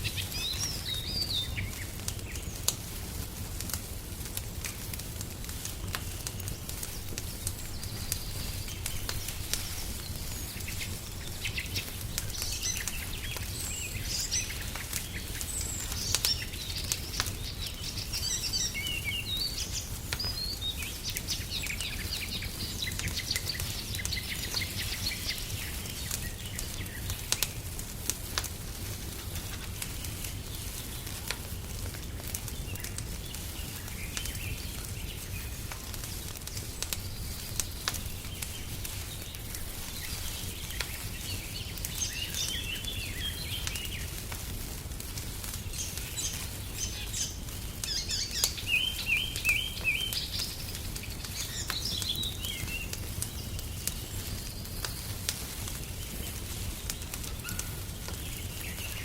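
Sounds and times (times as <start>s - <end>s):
birds chirping: 0.0s - 2.8s, 5.7s - 27.7s, 29.0s - 44.2s, 45.5s - 59.0s
wood fire crackling: 0.0s - 59.0s.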